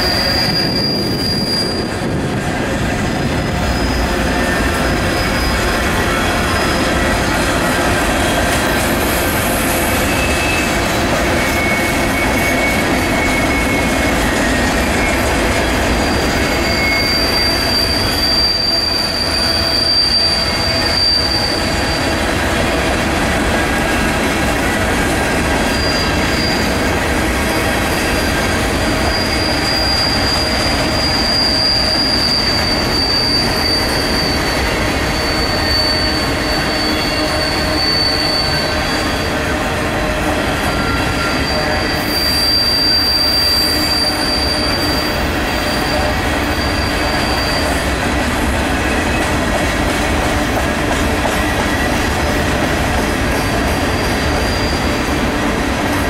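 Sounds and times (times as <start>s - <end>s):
high wheel squeal: 0.0s - 56.0s
steel wheels rumbling on rail: 0.0s - 56.0s.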